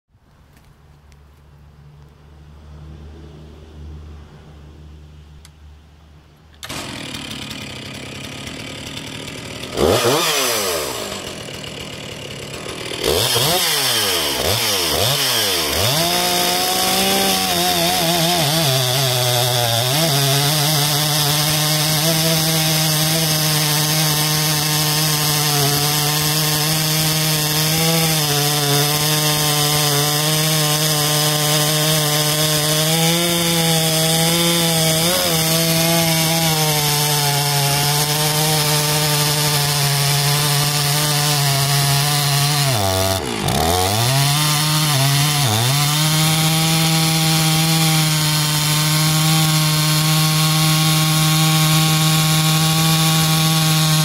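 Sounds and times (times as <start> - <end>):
chainsaw cutting through trunk: 6.6 - 54.0
chainsaw revving: 6.6 - 54.0.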